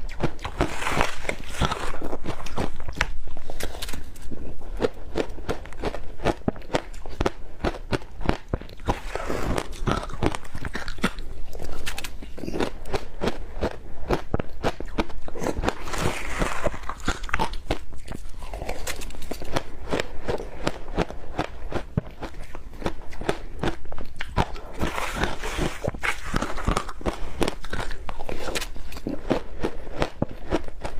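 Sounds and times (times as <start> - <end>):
ice cubes being chewed: 0.1 - 30.9.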